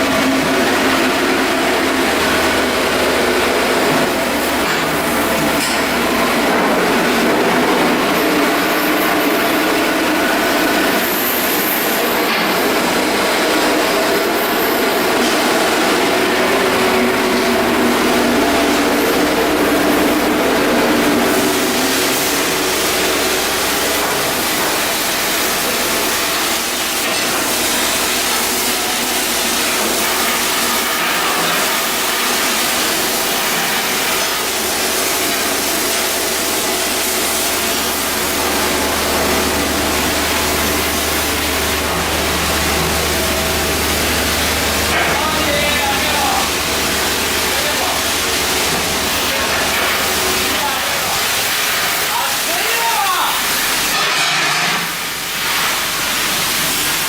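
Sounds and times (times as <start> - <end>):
loud industrial shipbuilding noise: 0.0 - 57.0.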